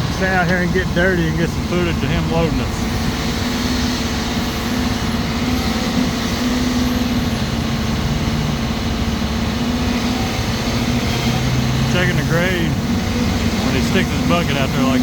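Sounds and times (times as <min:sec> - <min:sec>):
heavy diesel engines droning: 0:00.0 - 0:15.0.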